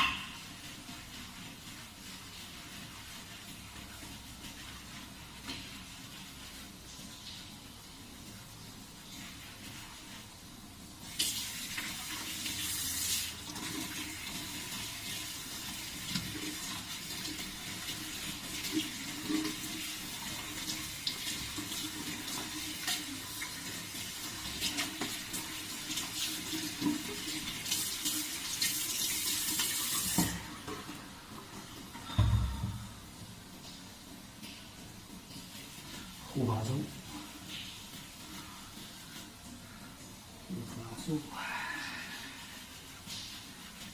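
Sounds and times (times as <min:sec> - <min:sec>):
water dripping: 0:00.0 - 0:10.2, 0:11.0 - 0:43.9
water pouring: 0:00.0 - 0:43.9
water running and splashing: 0:00.0 - 0:43.9.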